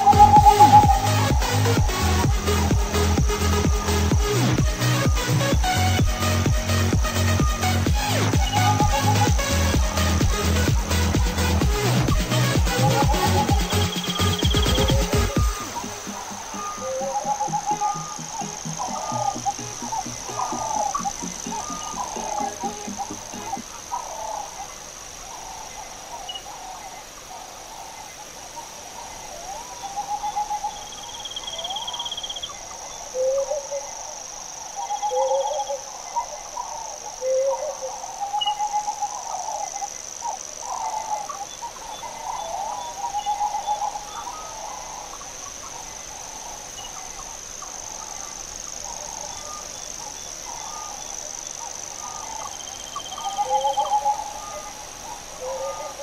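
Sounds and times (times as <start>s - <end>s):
birds swooping and warbling calls: 0.0s - 56.0s
steady high-pitched hiss: 0.0s - 56.0s.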